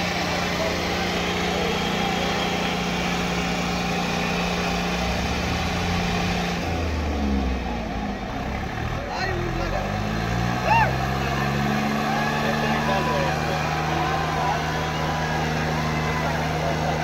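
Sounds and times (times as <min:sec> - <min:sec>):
tractor diesel engines running hard: 0:00.0 - 0:17.0.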